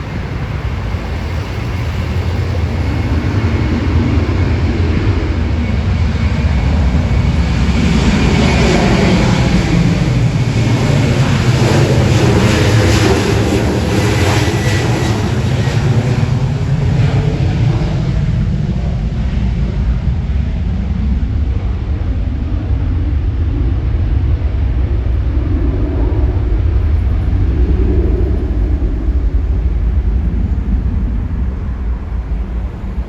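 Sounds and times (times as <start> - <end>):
jet engine noise: 0.0 - 33.0.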